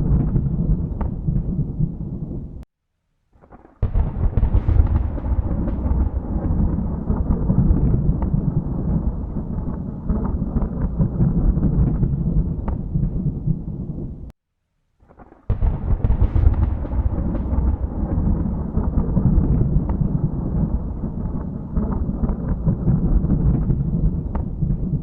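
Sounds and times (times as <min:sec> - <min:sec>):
sharp thunderclap: 0:00.0 - 0:02.4, 0:03.6 - 0:14.2, 0:15.2 - 0:25.0
thunder rumbling: 0:00.0 - 0:02.6, 0:03.8 - 0:14.3, 0:15.5 - 0:25.0.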